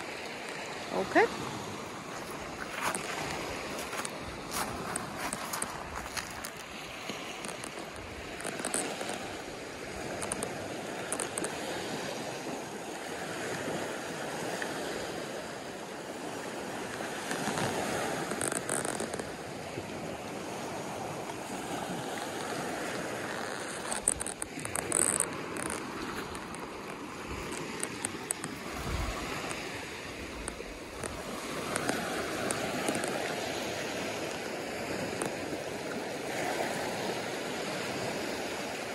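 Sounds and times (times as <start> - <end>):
waves washing up pebbly beach: 0.0 - 38.9.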